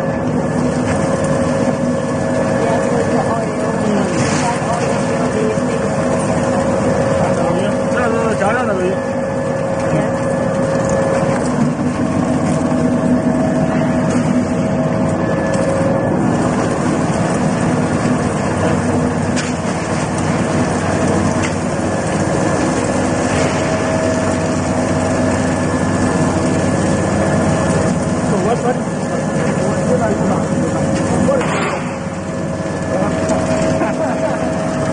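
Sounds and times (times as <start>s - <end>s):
oil press motor humming: 0.0s - 34.9s.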